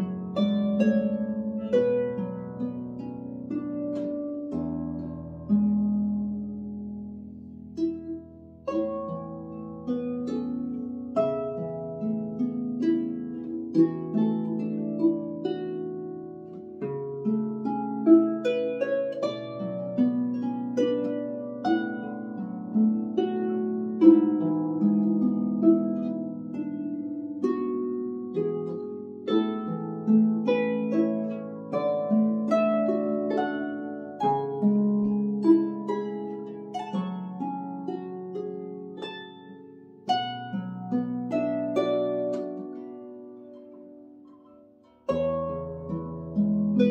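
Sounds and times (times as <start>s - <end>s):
harp playing melody: 0.0s - 46.9s.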